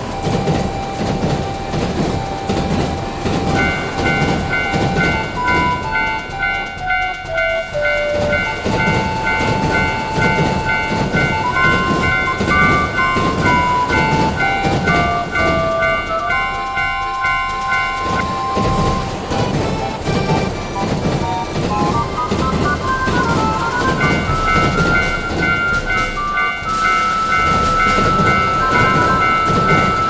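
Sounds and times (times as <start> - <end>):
railroad crossing bell: 0.0 - 30.0
train wheels clickety-clack: 0.0 - 30.0.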